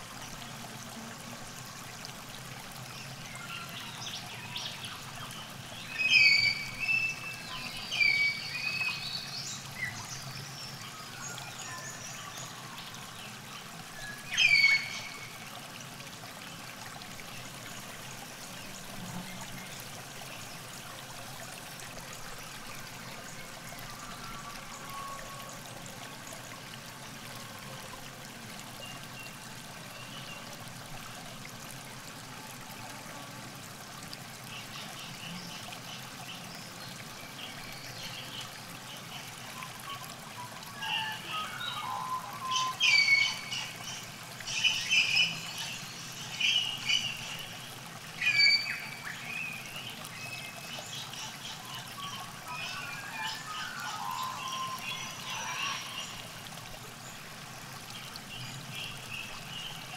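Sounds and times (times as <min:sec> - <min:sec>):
river water trickling: 0:00.0 - 0:59.9.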